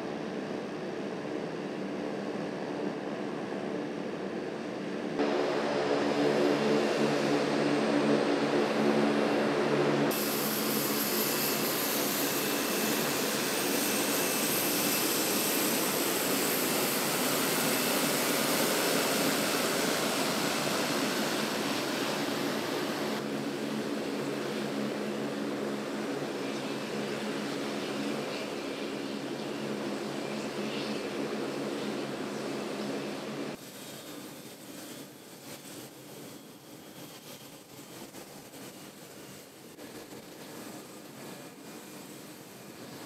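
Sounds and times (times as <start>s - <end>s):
turboprop engines droning: 0.0s - 43.0s.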